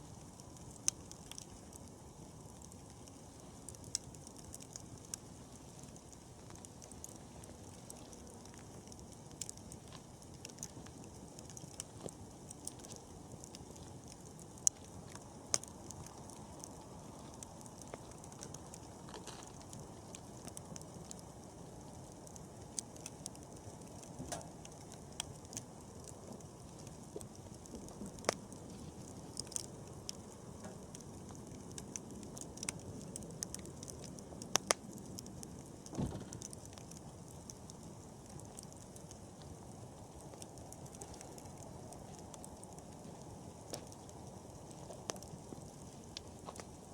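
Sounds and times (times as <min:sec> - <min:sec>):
campfire flame rushing: 0:00.0 - 0:46.9
fire crackling and popping: 0:00.0 - 0:46.9.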